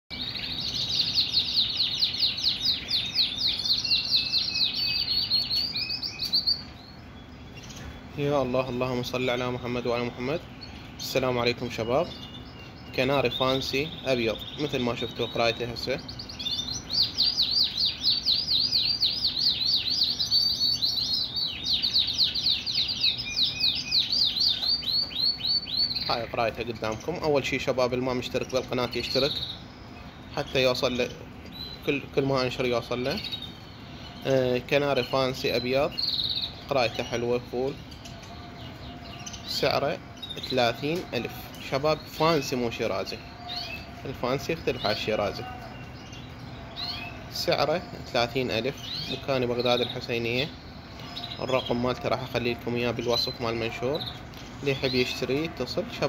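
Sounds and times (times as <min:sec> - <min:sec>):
canary singing: 0:00.1 - 0:56.0.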